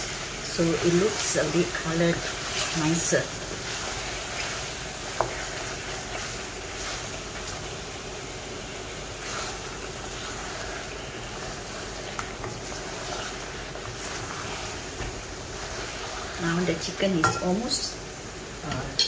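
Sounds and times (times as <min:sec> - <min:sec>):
spatula stirring in wok: 0:00.0 - 0:17.4
curry simmering with hiss: 0:00.0 - 0:19.0.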